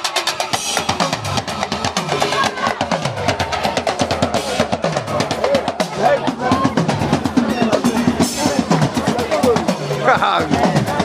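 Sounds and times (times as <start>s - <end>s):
fast dense drumming: 0.0s - 11.0s.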